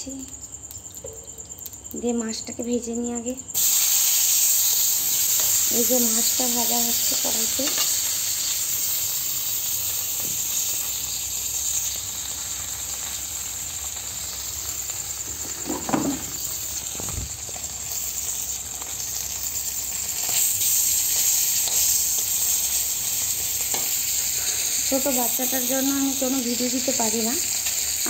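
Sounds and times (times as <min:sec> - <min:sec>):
fish frying in hot oil: 0:03.6 - 0:28.0.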